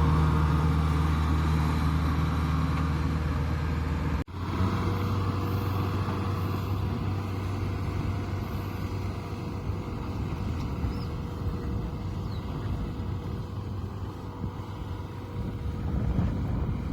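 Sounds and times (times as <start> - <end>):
combine harvester engine drone: 0.0 - 16.9.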